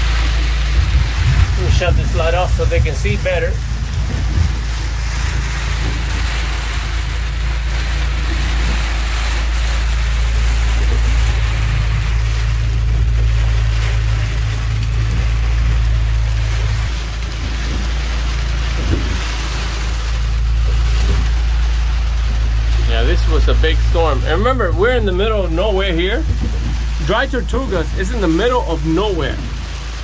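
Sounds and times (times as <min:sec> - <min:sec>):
low hum: 0:00.0 - 0:30.0
wind and heavy rain: 0:00.0 - 0:30.0.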